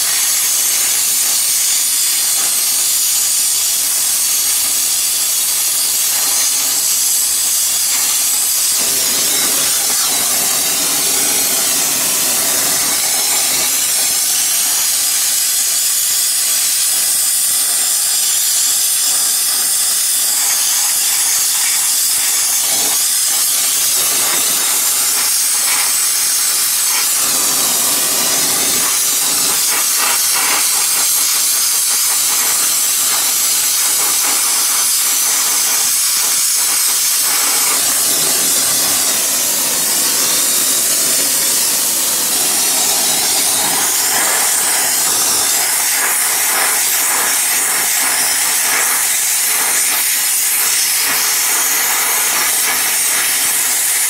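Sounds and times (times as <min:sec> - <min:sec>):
gas torch flame hissing: 0:00.0 - 0:54.0.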